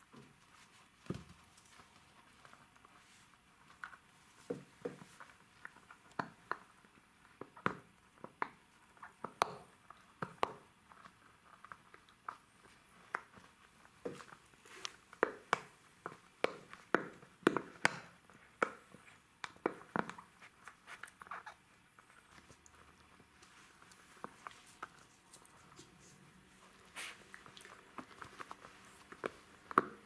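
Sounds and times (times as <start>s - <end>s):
puppy chewing rubber toy: 1.1s - 30.0s.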